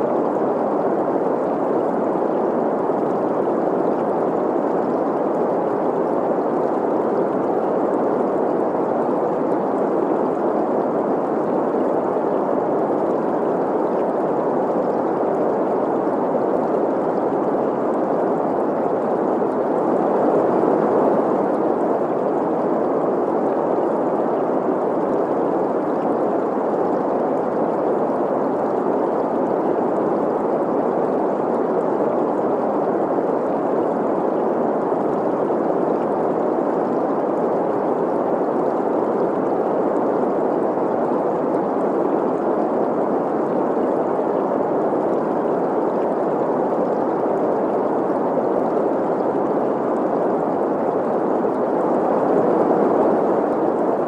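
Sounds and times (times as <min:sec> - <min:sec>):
flowing stream: 0:00.0 - 0:54.0.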